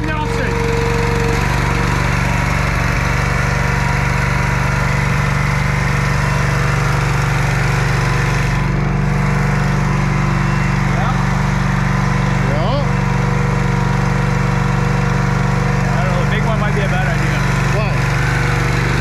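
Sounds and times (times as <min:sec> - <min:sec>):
small engine running steadily: 0:00.0 - 0:19.0.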